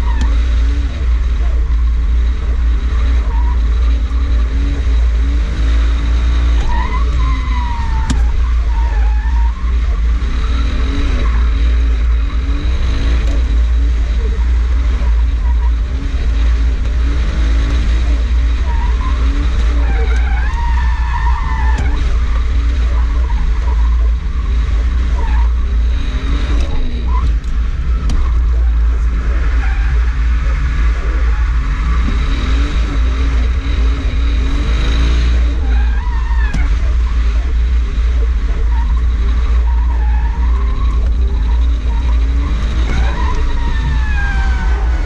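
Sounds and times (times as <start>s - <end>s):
car engine revving: 0.0s - 45.0s
tyres skidding and squealing: 0.0s - 45.0s.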